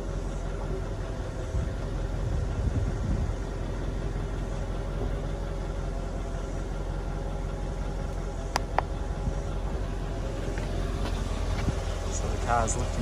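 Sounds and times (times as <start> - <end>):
car engine idling hum: 0.0 - 13.0.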